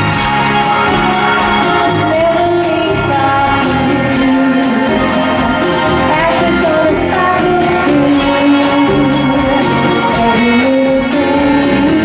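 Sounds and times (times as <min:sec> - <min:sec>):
live band music: 0:00.0 - 0:12.0.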